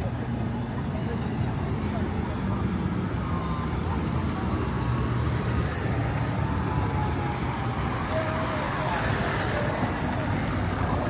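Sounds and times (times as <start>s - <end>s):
road traffic hum: 0.0s - 11.0s
vehicle engines running: 0.0s - 11.0s.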